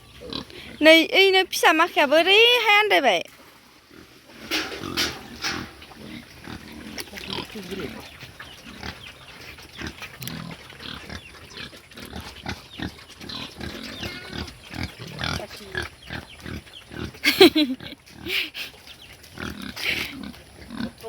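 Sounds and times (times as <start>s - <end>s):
pigs grunting: 0.0s - 0.8s, 3.8s - 21.0s.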